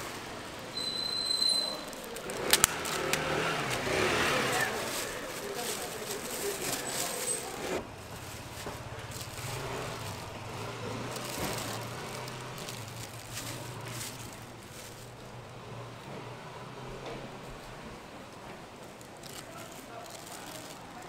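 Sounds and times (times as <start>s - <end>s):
steady low street hum: 0.0s - 21.0s
clattering and rustling: 1.6s - 16.2s, 16.9s - 21.0s.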